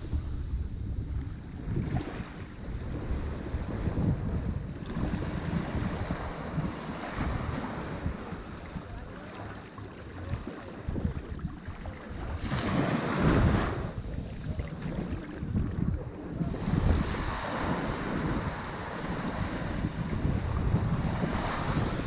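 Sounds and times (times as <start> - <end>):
ocean waves breaking: 0.0 - 22.0
wind rumbling on microphone: 0.0 - 22.0.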